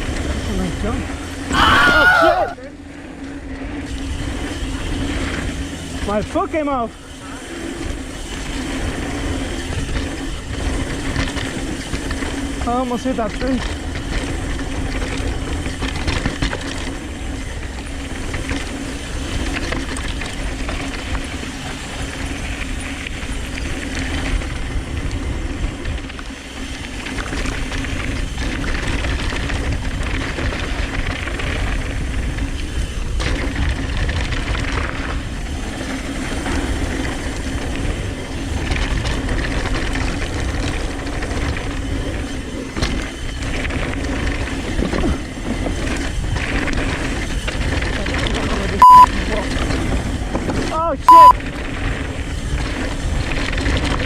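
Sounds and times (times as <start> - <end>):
bike rattling: 0.0 - 54.0
bike tyre noise: 0.0 - 54.0
wind rushing over microphone: 0.0 - 54.0.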